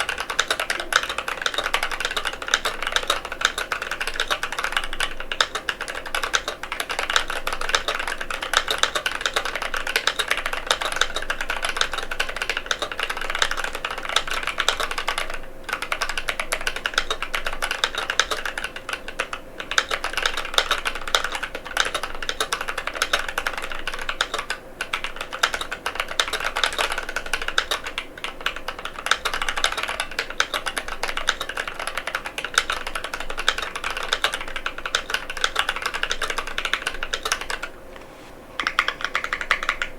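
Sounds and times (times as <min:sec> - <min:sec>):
fast mechanical keyboard typing: 0:00.0 - 0:37.7, 0:38.6 - 0:39.9.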